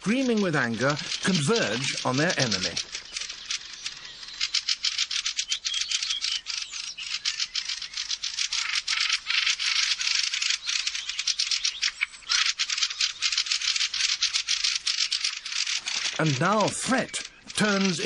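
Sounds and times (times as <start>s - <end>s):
birds chattering alarm calls: 0.0s - 18.0s.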